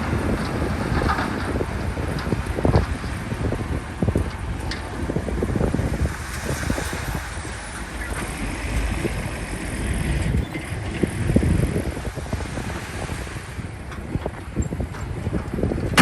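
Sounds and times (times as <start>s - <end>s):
bulldozer diesel engine running: 0.0s - 16.0s
wind buffeting microphone: 0.0s - 16.0s.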